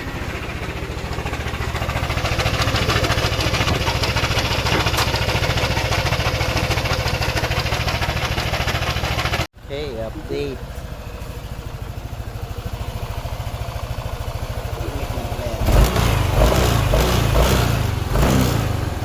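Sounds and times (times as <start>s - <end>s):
abnormal engine noise: 0.0s - 19.0s
scooter engine idling: 0.0s - 19.0s.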